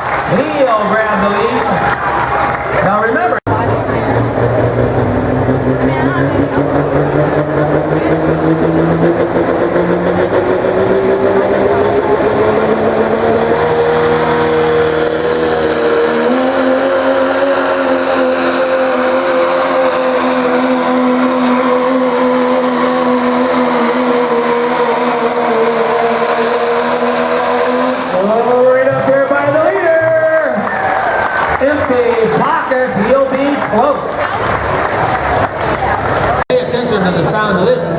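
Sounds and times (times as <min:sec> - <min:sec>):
diesel truck engine revving: 0:00.0 - 0:37.9.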